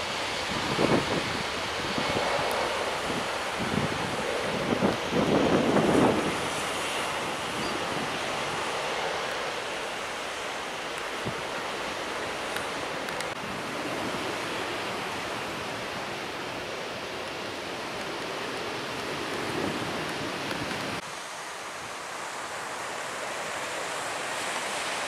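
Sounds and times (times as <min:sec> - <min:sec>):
waves washing onto beach: 0:00.0 - 0:25.0.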